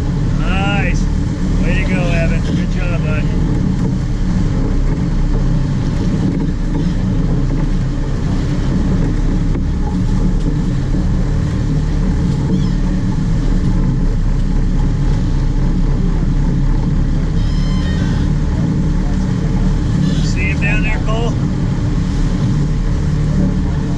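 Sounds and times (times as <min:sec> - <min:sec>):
boat engine rumbling: 0:00.0 - 0:23.9.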